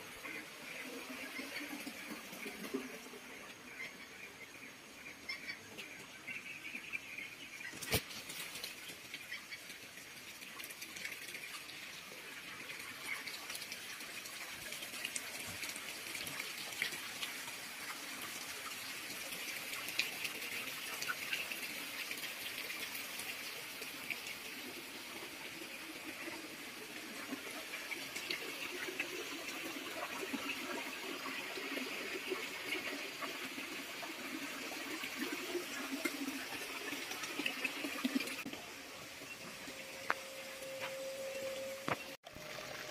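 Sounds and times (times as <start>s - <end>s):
running water rushing: 7.7s - 42.9s.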